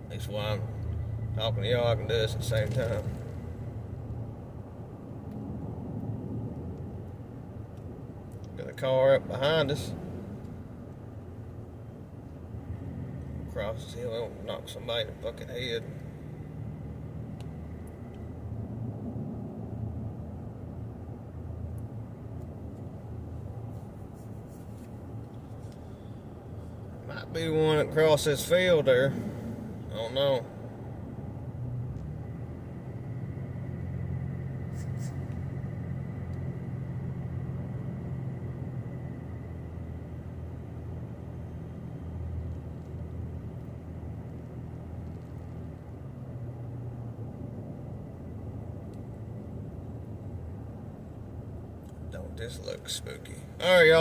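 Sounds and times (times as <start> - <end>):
truck engine and road noise: 0.0 - 54.0.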